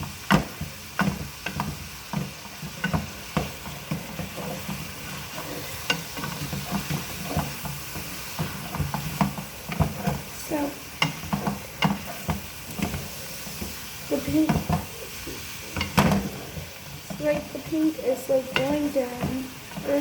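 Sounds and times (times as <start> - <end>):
meat sizzling in a pan: 0.0 - 20.0
utensil scraping and tapping pan: 0.0 - 20.0.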